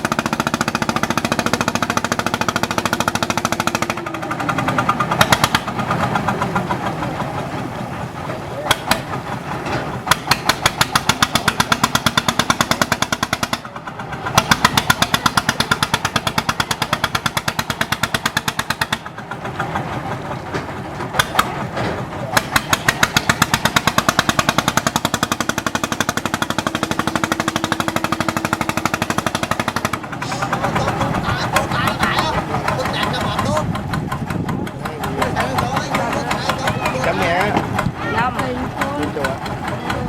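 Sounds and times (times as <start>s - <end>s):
boat engine knocking: 0.0s - 40.0s.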